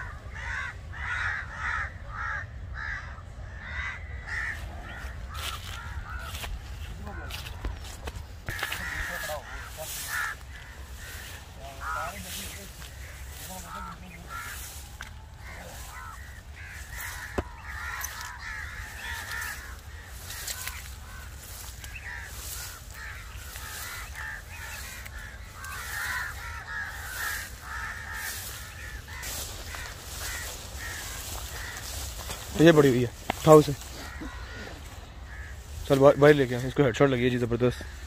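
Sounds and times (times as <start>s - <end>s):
birds chattering: 0.0s - 38.0s.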